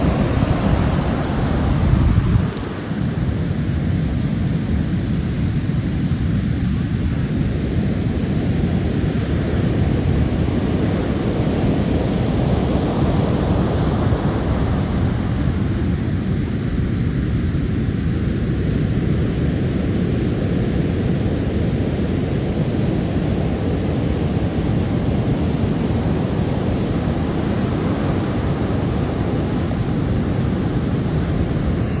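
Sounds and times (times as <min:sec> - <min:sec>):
ocean surf roar: 0:00.0 - 0:32.0
wind rumbling on microphone: 0:00.0 - 0:32.0.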